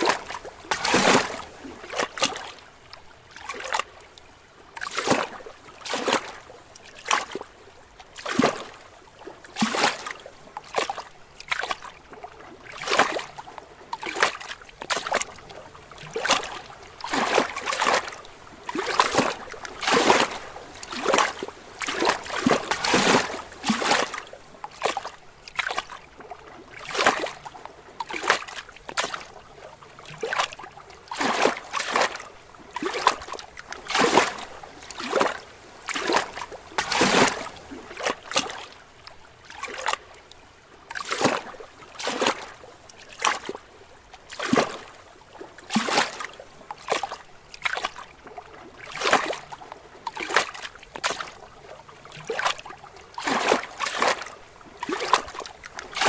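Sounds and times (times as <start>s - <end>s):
waves lapping against rocks: 0.0s - 56.0s.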